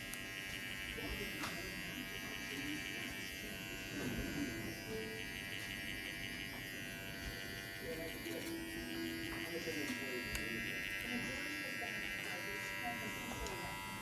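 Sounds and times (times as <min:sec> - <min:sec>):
electric hair clippers buzzing: 0:00.0 - 0:14.0.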